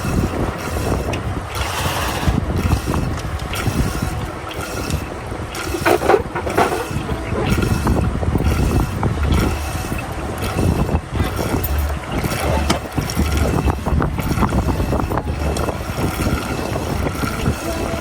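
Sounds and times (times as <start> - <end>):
water splashing: 0.0 - 18.0
wind buffeting microphone: 0.0 - 18.0.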